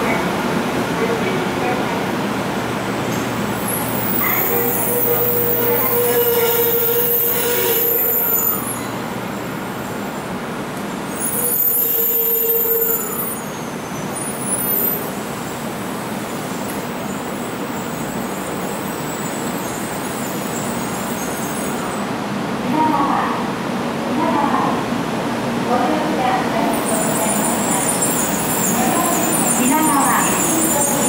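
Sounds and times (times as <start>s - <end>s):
train rumble and hiss: 0.0s - 31.0s.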